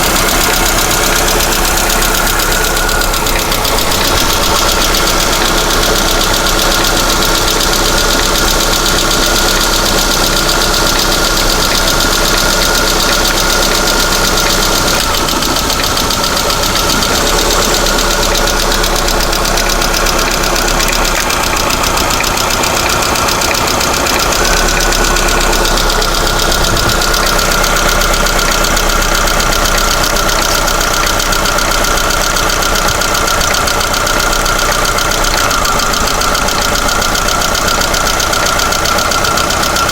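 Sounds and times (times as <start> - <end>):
car engine running: 0.0 - 39.9
rapid ticking of valve lifters: 0.0 - 39.9.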